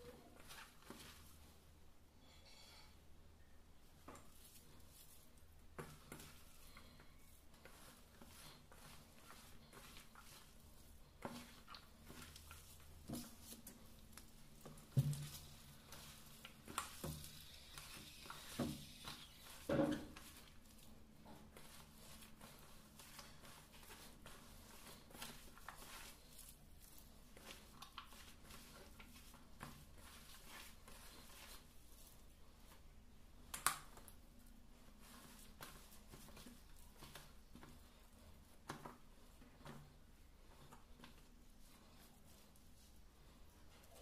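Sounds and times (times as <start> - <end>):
hand squishing vegetables: 0.0 - 2.1, 3.8 - 44.0.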